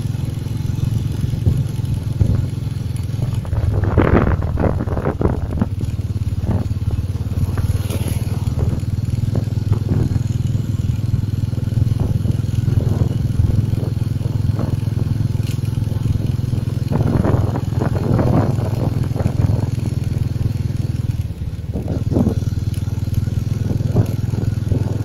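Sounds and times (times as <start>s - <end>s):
vehicle engine and tyre hum: 0.0s - 25.0s.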